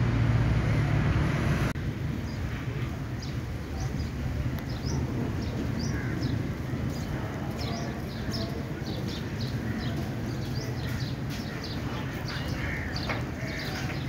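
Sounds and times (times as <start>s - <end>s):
birds chirping: 2.0s - 14.0s.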